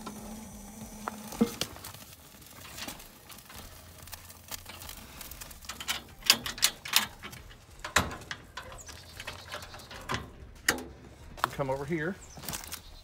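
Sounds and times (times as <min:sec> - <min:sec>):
charcoal crackling and popping: 0:00.0 - 0:13.0.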